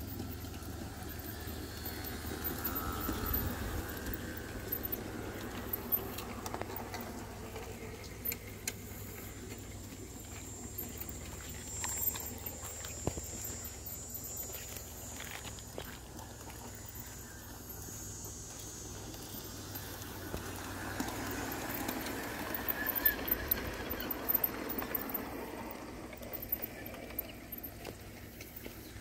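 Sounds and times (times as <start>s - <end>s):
model train rolling on track: 0.0s - 29.0s
sharp clicks of wheels on rails: 0.0s - 29.0s.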